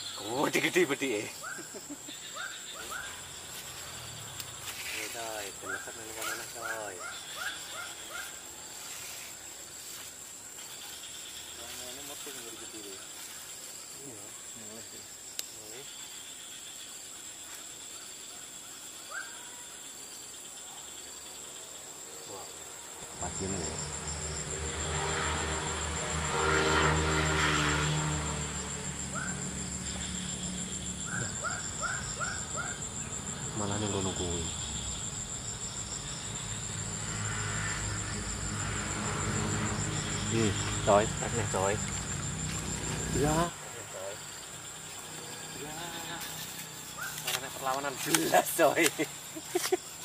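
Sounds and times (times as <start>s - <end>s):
insects trilling: 0.0s - 50.0s.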